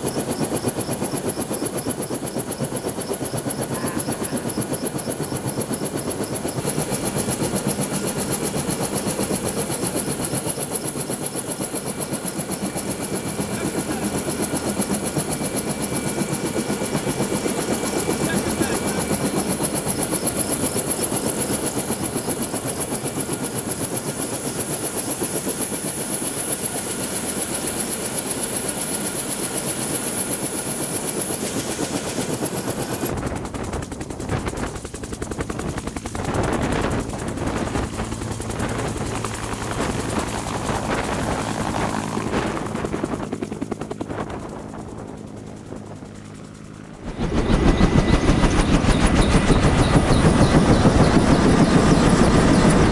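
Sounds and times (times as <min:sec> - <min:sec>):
helicopter rotor chop: 0:00.0 - 0:52.9
helicopter turbine whine: 0:00.0 - 0:52.9.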